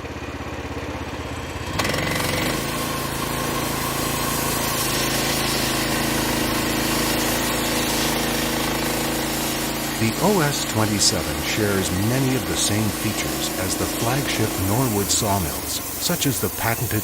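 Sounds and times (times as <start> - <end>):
sawmill engine revving: 1.0 - 17.0
broad hiss: 2.1 - 17.0.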